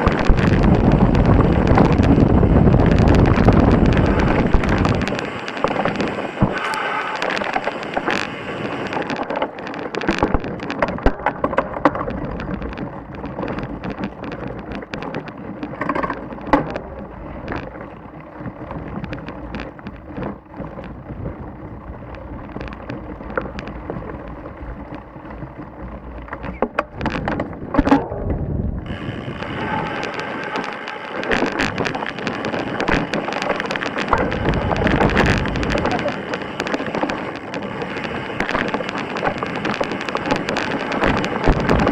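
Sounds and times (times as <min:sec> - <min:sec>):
bike tyres crunching over stones: 0:00.0 - 0:41.9
wind noise on microphone: 0:00.0 - 0:41.9.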